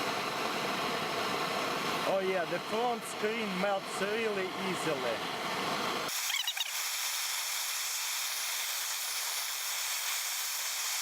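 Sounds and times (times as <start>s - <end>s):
blowtorch flame hissing: 0.0s - 11.0s.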